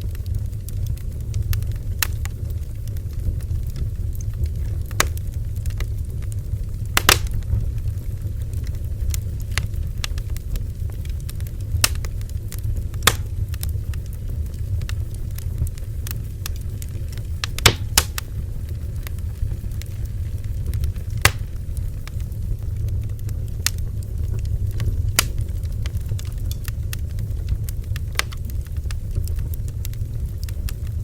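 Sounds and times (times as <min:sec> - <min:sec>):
bonfire low rumble: 0:00.0 - 0:31.0
burning wood crackling and popping: 0:00.0 - 0:31.0.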